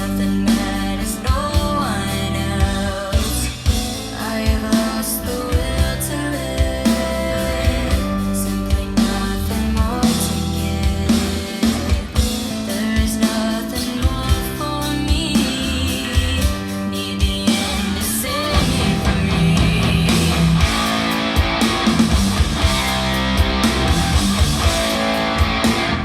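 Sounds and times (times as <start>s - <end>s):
rock music with guitar and drums: 0.0s - 26.0s.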